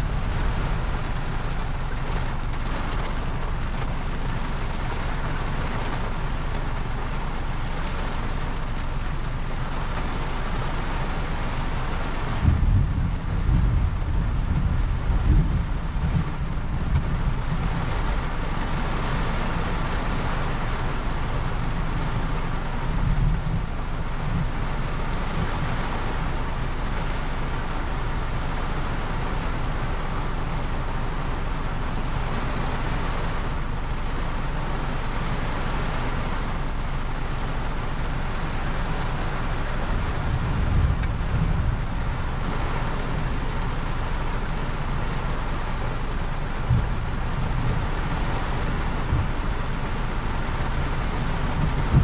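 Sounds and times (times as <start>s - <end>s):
low rumbles: 0.0s - 52.0s
rain falling: 0.0s - 52.0s.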